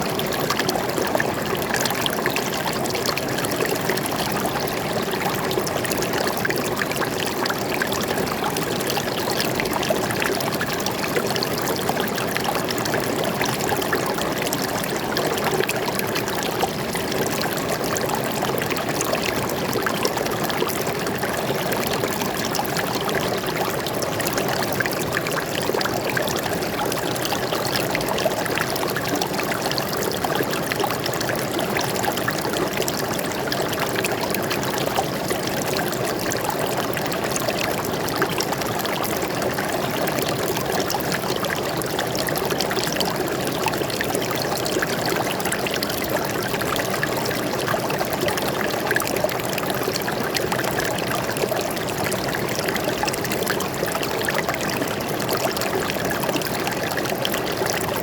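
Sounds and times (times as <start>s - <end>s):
stream water flowing over rocks: 0.0s - 58.0s.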